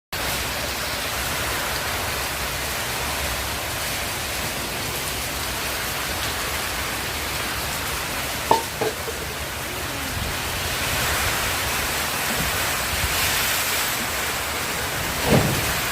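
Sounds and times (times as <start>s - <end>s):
heavy rain pouring: 0.2s - 15.9s.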